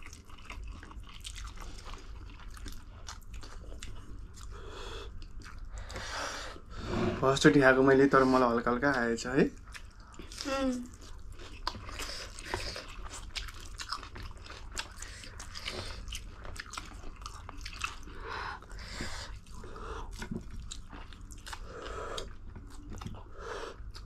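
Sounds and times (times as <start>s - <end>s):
chewing noodles: 0.0s - 6.2s, 9.5s - 24.0s.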